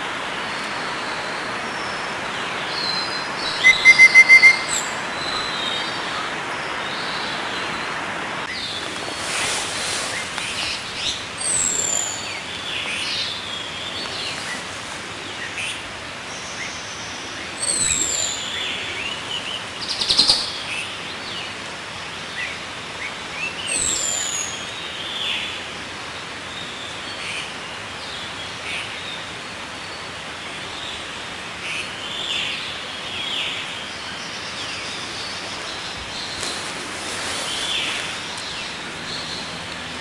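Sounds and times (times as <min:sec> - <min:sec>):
steady background hiss: 0:00.0 - 0:40.0
wild birds chirping: 0:00.0 - 0:40.0.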